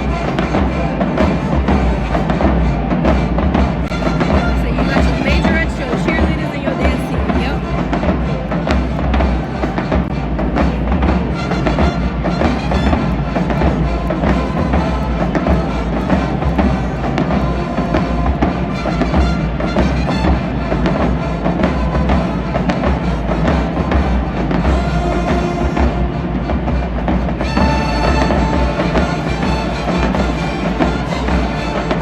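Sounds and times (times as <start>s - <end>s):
heavy drums: 0.0s - 32.0s
marching band playing: 0.0s - 32.0s.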